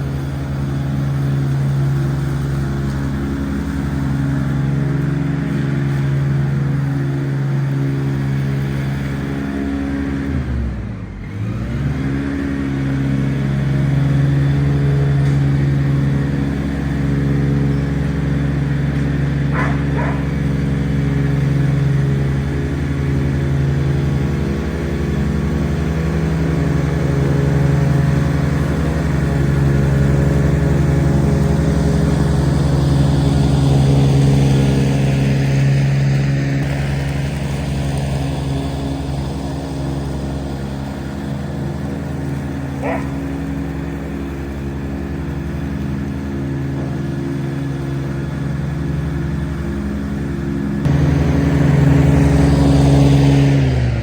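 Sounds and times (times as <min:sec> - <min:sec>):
ride-on mower engine running: 0:00.0 - 0:54.0.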